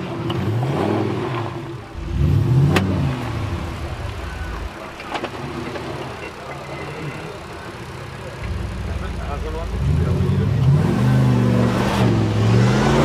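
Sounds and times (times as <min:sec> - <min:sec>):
suv engine revving: 0:00.0 - 0:13.0.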